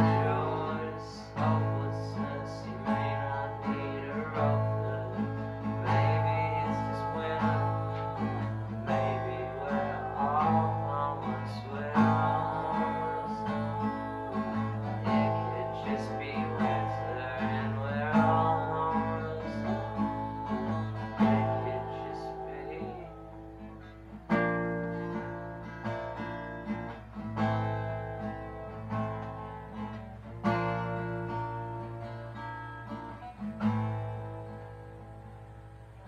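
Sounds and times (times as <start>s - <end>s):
acoustic guitar chords: 0.0s - 36.0s.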